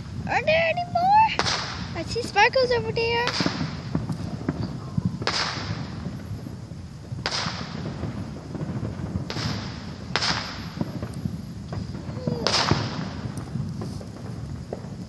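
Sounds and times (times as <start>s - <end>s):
distant fireworks bangs: 0.0s - 15.0s
faint firework pops: 0.0s - 15.0s.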